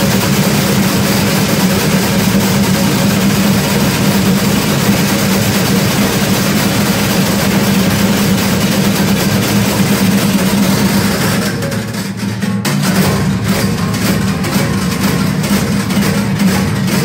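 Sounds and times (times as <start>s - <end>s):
large cowbells clanging: 0.0s - 17.0s.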